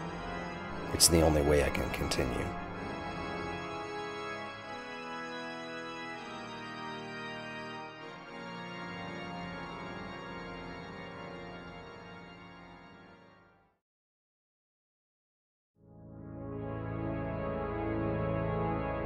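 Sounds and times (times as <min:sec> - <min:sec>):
pipe organ slow chords: 0:00.0 - 0:13.6, 0:15.9 - 0:19.0.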